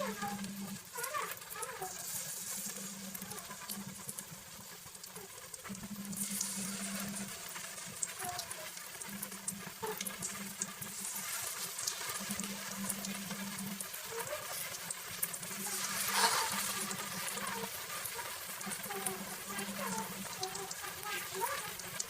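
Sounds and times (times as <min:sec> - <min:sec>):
fritters sizzling in hot oil: 0:00.0 - 0:22.0
oil crackles and pops: 0:00.0 - 0:22.0.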